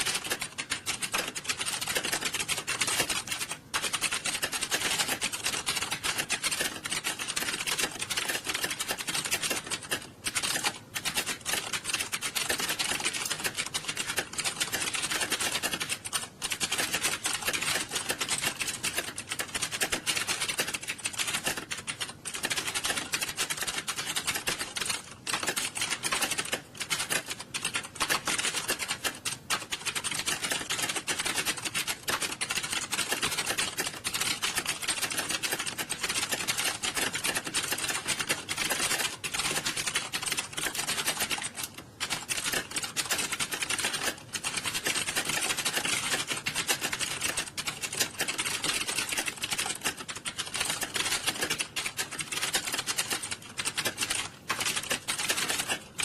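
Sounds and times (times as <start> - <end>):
many keyboards typing fast: 0.0 - 56.0.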